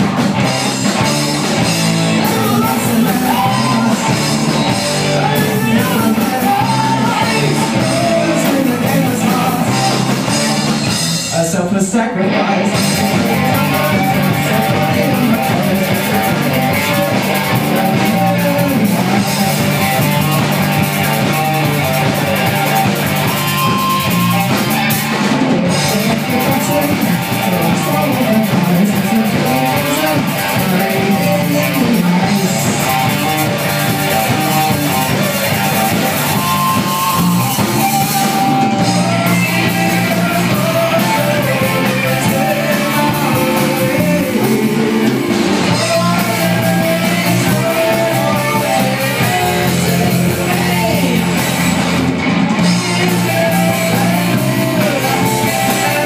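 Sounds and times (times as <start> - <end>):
drum kit: 0.0 - 11.7, 12.3 - 56.0
electric guitars: 0.0 - 56.0.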